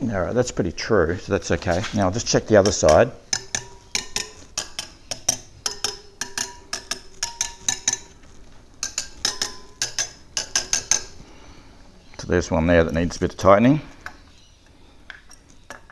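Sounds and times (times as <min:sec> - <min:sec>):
metal tool striking wheel spokes: 0:01.4 - 0:15.9.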